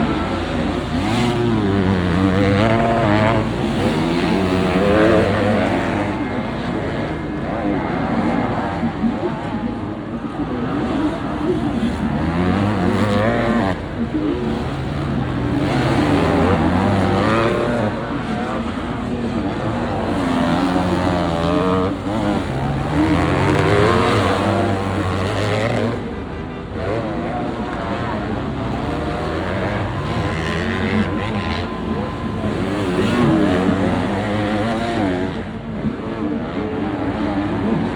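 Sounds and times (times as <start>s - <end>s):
motocross bikes revving: 0.0s - 37.9s.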